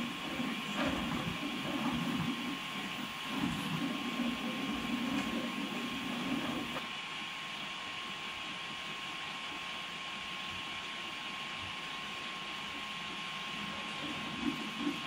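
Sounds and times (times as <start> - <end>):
cooling fans hissing: 0.0 - 15.0.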